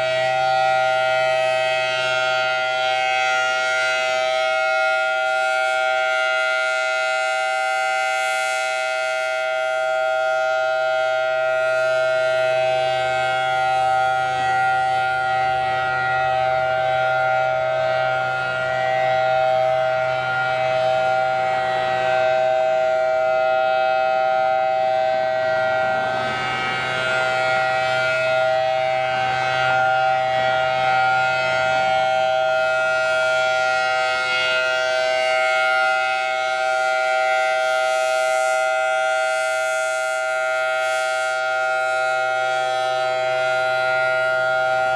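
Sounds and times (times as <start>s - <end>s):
siren steady tone: 0.0s - 44.9s.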